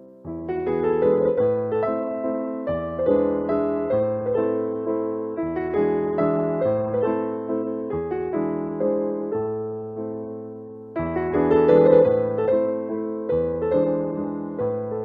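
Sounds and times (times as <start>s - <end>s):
piano playing steady notes: 0.0s - 15.0s.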